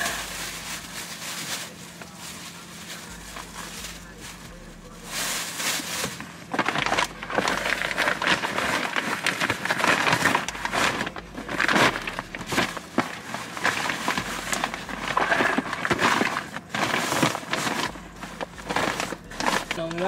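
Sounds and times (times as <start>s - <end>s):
rustling and crinkling of bags: 0.0s - 20.0s.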